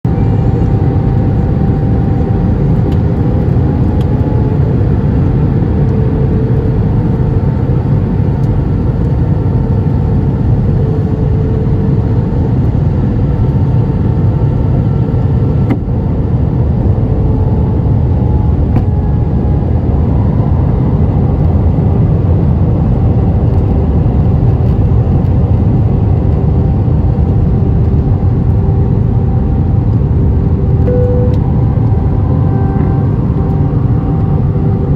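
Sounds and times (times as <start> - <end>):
airliner cabin engine roar: 0.0 - 34.9
humming engine tones: 0.0 - 34.9.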